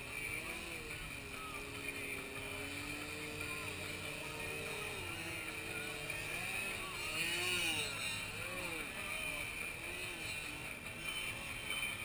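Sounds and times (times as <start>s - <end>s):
model airplane motors buzzing: 0.0s - 12.0s.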